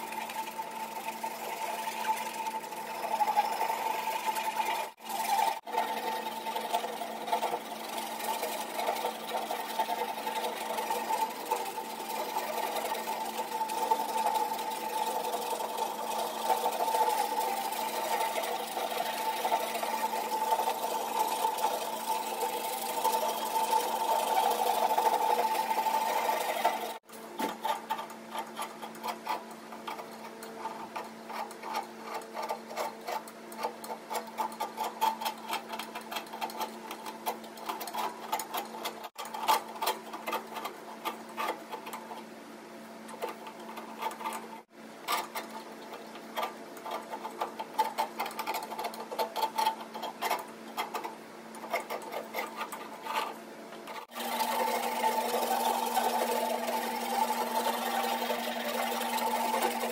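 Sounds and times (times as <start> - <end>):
blade scraping and clicking: 0.0 - 42.3, 43.1 - 59.9
handsaw rasping: 0.0 - 42.3, 43.1 - 59.9.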